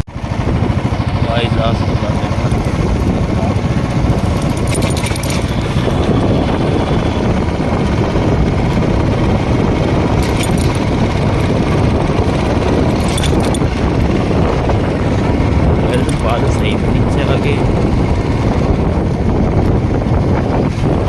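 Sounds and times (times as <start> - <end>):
road noise: 0.0 - 21.0
vehicle engine running: 0.0 - 21.0
wind rush on microphone: 0.0 - 21.0.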